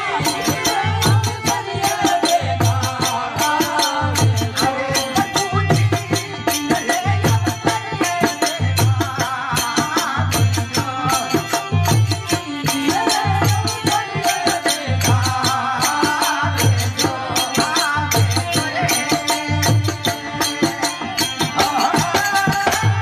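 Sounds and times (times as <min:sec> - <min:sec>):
harmonium: 0:00.0 - 0:23.0
man singing devotional song: 0:00.0 - 0:23.0.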